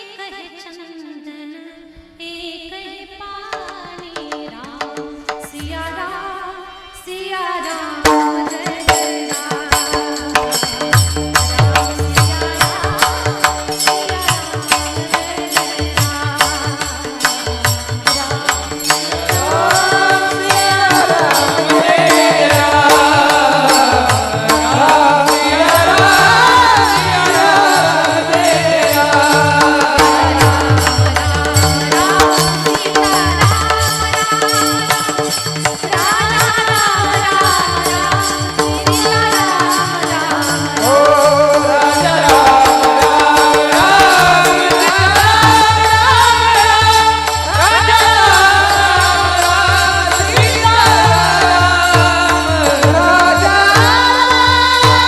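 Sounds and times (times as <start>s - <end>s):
hand drum beating: 8.0s - 55.0s.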